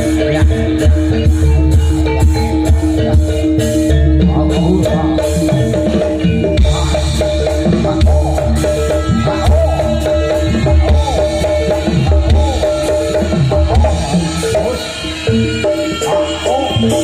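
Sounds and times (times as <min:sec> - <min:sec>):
drums beating heavily: 0:00.0 - 0:17.0
held metallophone tones: 0:00.0 - 0:17.0.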